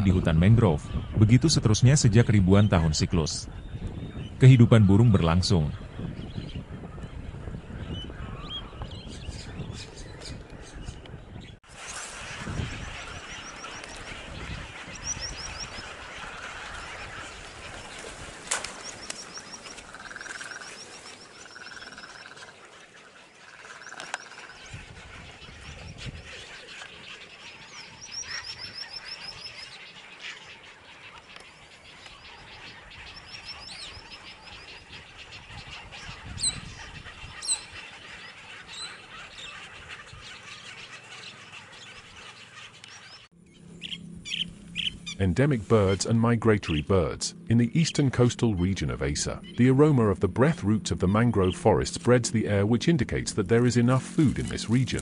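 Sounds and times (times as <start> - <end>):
birds trilling: 0.0 - 55.0
lower bird calls: 2.2 - 51.8.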